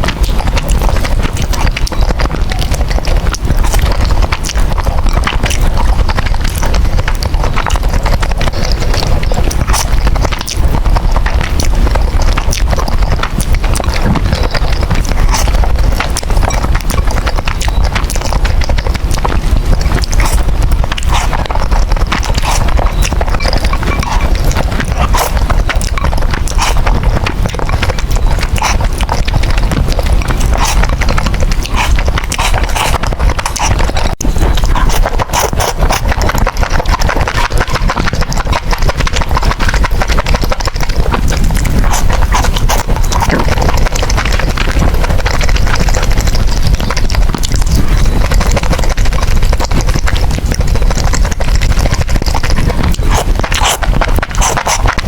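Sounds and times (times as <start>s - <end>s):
chewing noodles: 0.0s - 55.0s.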